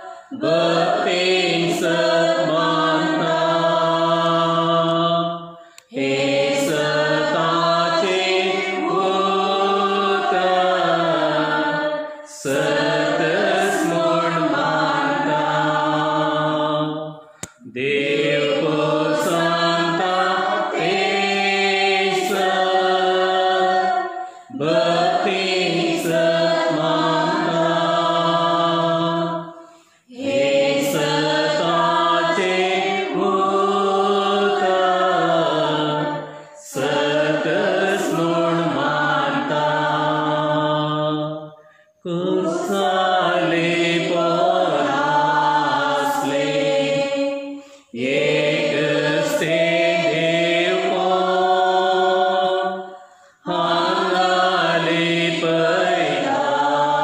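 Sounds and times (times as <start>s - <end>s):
voices singing a slow hymn: 0.0s - 57.0s.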